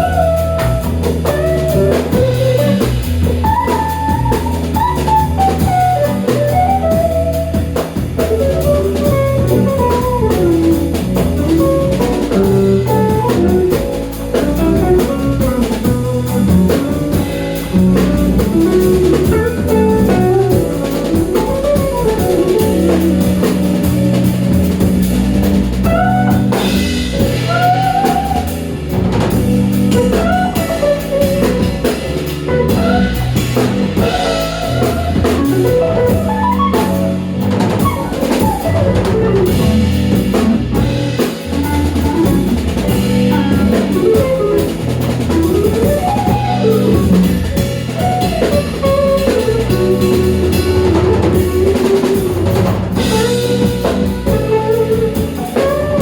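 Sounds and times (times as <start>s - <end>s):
bass and chords: 0.0s - 56.0s
drum kit groove: 0.0s - 56.0s
sliding lead melody: 0.0s - 56.0s.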